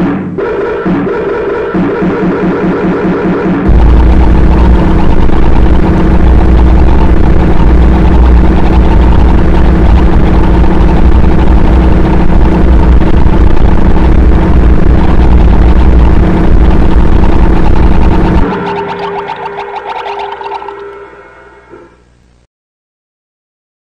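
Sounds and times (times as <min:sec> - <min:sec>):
harsh distorted noise music: 0:00.0 - 0:22.0.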